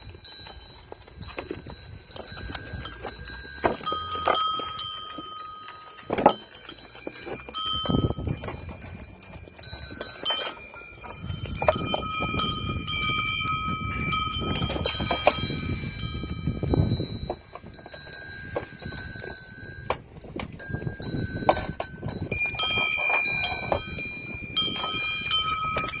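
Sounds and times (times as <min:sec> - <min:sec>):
goat bells clanking: 0:00.0 - 0:26.0.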